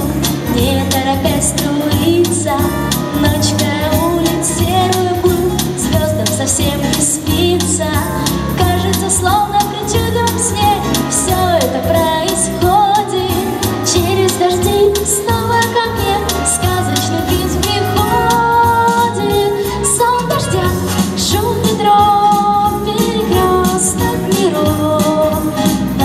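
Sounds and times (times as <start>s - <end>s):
backing track with steady beat: 0.0s - 26.0s
girl singing into microphone: 0.0s - 26.0s.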